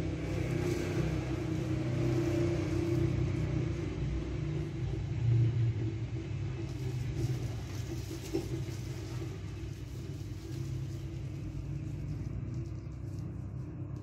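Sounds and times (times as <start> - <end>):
bakery machinery humming: 0.0 - 14.0.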